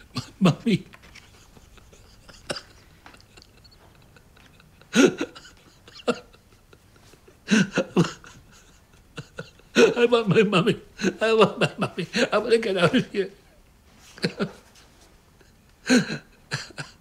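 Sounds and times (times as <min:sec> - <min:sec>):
man sobbing: 0:00.0 - 0:14.8, 0:15.4 - 0:17.0.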